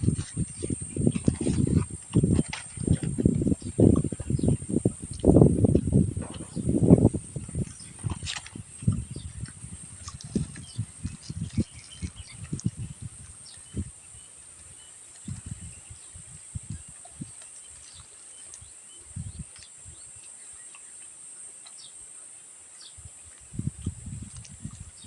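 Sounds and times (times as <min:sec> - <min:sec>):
chewing and mouth sounds: 0:00.0 - 0:16.1, 0:16.7 - 0:22.0, 0:23.2 - 0:25.0.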